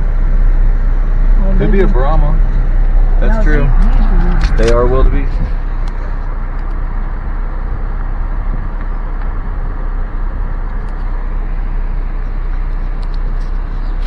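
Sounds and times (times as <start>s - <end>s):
car interior driving rumble: 0.0s - 14.0s.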